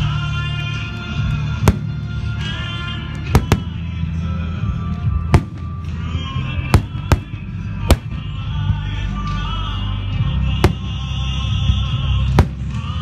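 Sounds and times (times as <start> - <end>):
music playing: 0.0 - 13.0.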